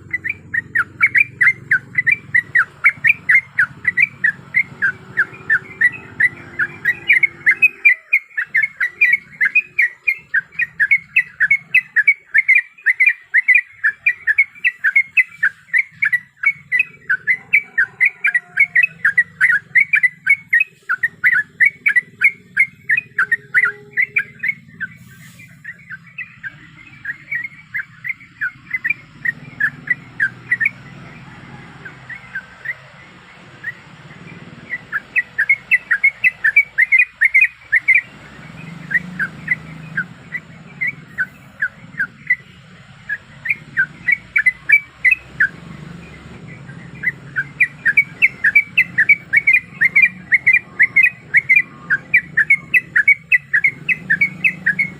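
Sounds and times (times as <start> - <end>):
bulbul chattering call: 0.0 - 54.9.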